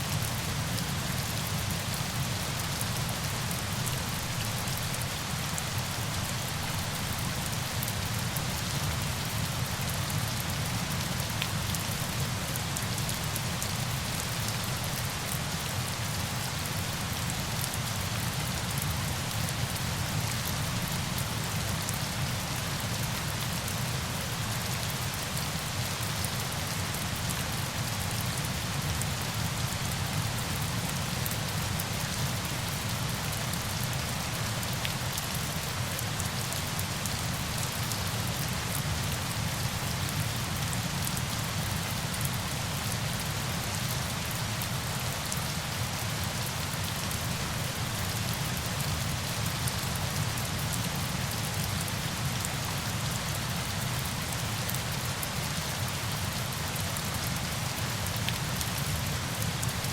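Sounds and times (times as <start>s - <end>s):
rushing falling water: 0.0s - 59.9s.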